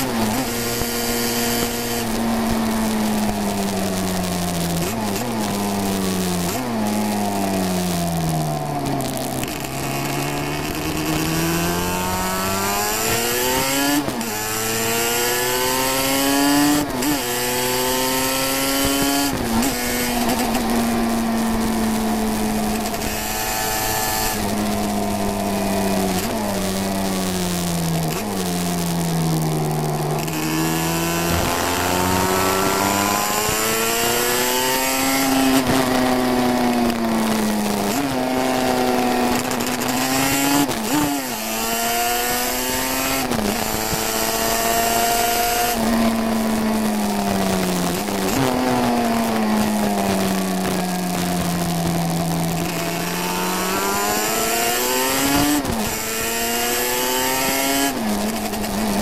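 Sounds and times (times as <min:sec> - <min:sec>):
motorcycle engine at race speed: 0:00.0 - 0:59.0.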